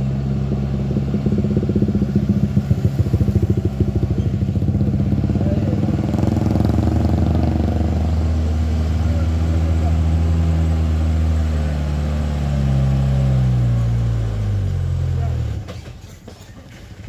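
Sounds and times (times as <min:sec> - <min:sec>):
diesel truck engine labouring: 0:00.0 - 0:17.0.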